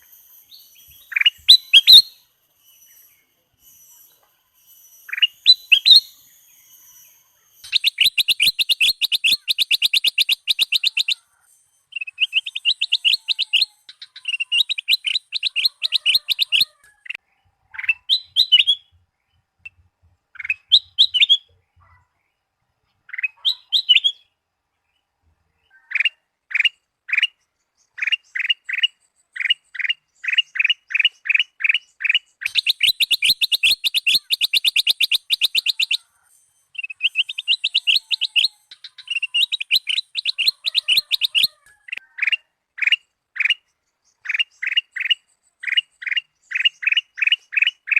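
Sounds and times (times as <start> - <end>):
bird singing trilled phrases: 0.0 - 47.9.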